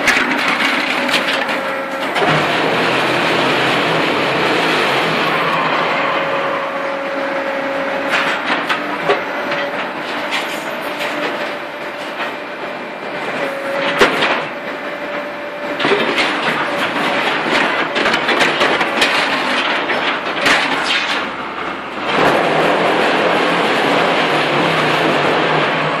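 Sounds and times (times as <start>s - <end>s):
heavy machinery rattling: 0.0s - 26.0s.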